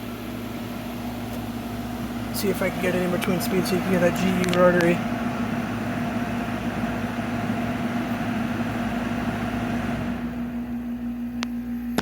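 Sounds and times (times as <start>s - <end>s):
air conditioner compressor hum: 0.0s - 12.0s
blower fan rushing: 0.0s - 12.0s.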